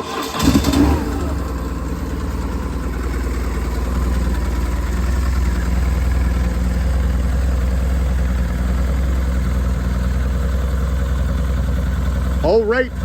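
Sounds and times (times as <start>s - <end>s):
motorcycle engine idling: 0.1s - 13.0s.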